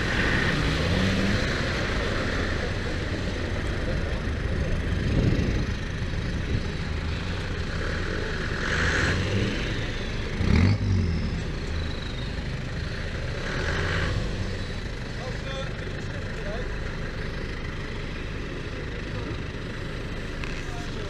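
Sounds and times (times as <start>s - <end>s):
engines running at low revs: 0.0s - 21.0s.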